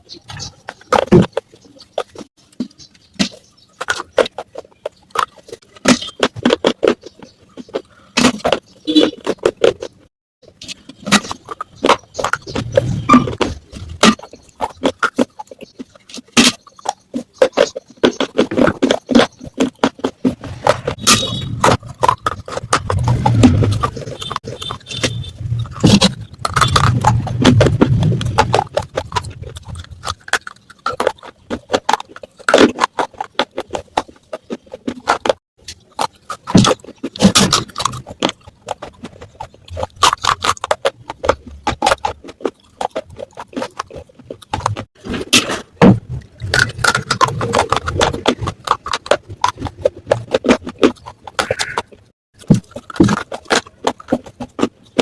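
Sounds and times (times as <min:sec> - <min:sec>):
clay pot pieces crunching: 0:00.0 - 0:55.0.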